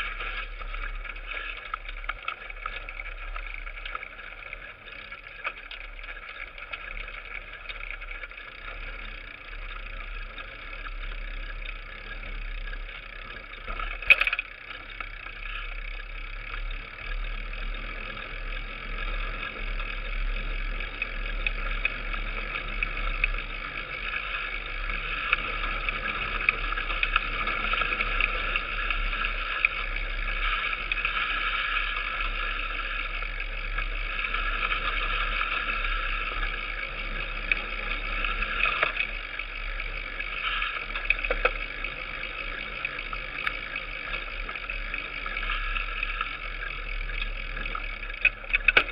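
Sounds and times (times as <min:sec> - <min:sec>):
bike rattling over dirt trail: 0:00.0 - 0:48.9.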